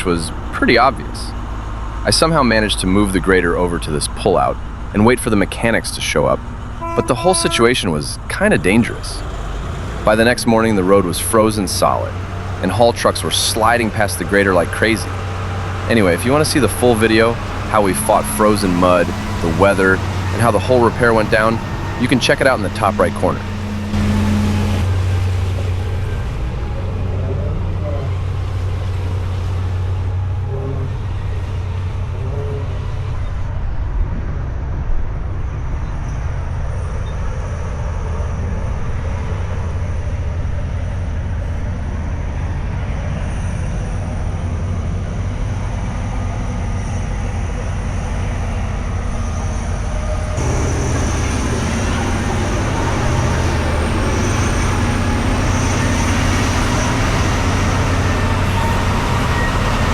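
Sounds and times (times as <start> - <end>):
heavy vehicles rumbling: 0.0 - 59.9.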